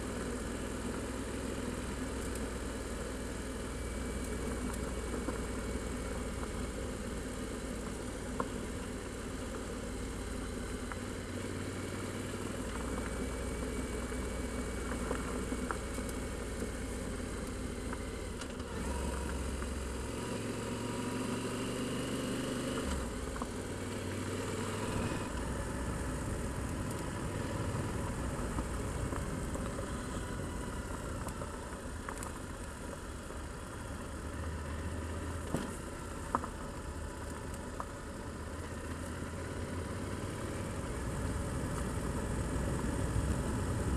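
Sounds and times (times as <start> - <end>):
motorcycle engine running: 0.0 - 43.9
road and wind noise: 0.0 - 43.9.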